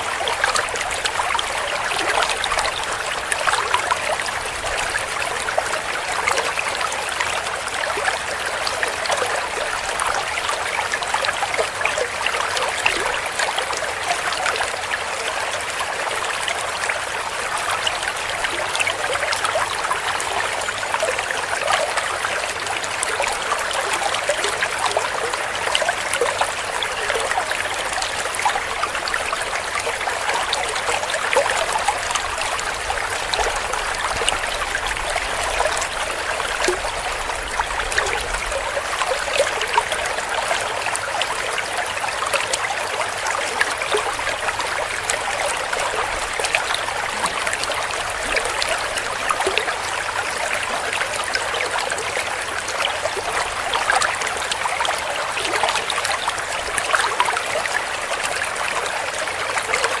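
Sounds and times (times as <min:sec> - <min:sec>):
stream water flowing and gurgling: 0:00.0 - 1:00.0.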